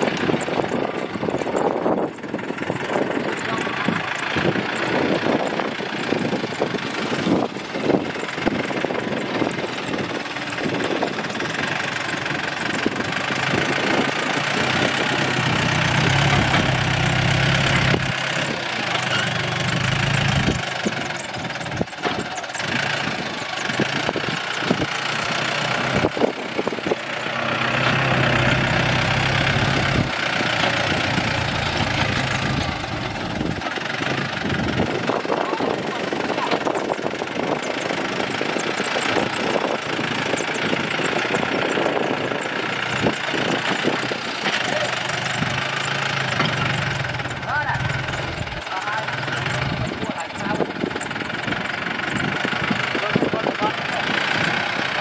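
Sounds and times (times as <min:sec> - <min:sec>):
tractor engine running: 0:00.0 - 0:55.0
sharp clattering knocks: 0:02.5 - 0:53.7.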